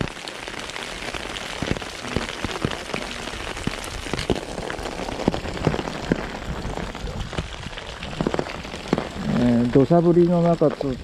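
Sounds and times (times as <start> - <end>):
heavy rain: 0.0 - 11.0
raindrops tapping close by: 0.0 - 11.0.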